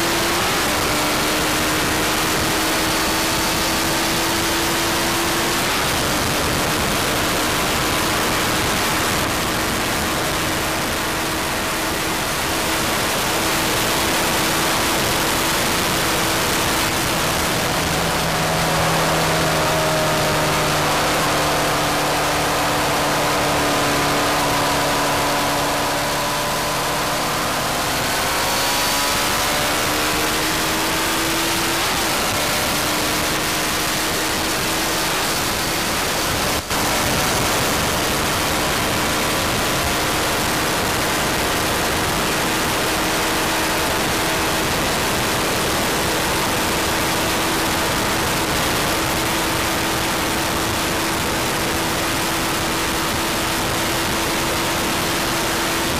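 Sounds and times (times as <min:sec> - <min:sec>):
motorcycle engine at high revs: 0:00.0 - 0:55.9
wind noise rushing: 0:00.5 - 0:55.9.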